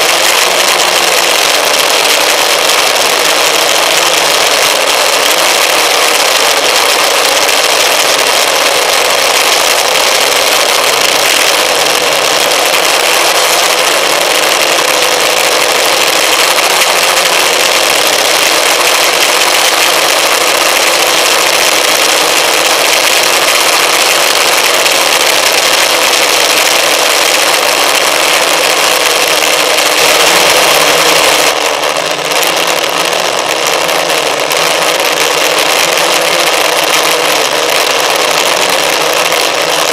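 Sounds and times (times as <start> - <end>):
aircraft motor and propeller: 0.0 - 39.9.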